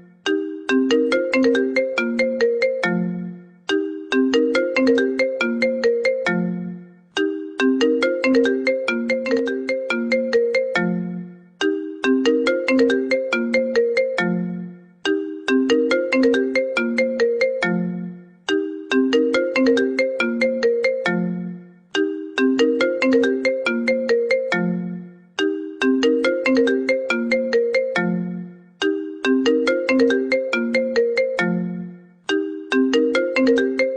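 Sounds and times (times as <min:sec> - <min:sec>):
bell-like ringtone melody: 0:00.0 - 0:33.9.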